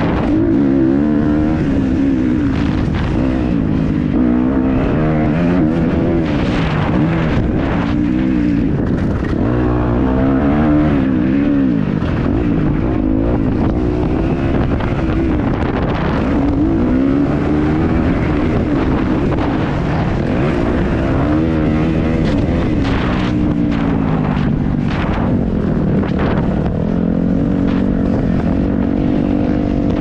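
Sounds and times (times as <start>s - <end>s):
motocross engine revving: 0.0s - 30.0s.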